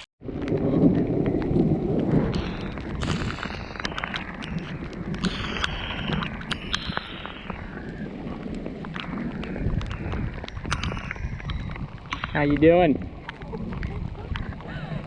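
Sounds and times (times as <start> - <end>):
raindrops tapping: 0.2 - 15.0
wind rumble on microphone: 0.2 - 15.0.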